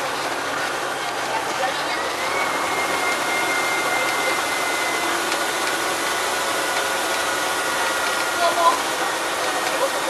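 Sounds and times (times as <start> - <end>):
bus engine whirring: 0.0 - 10.0.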